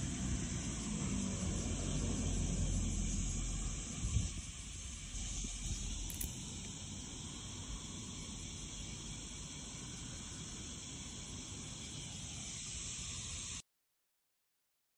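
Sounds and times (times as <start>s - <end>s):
high-pitched insect chorus: 0.0s - 13.6s.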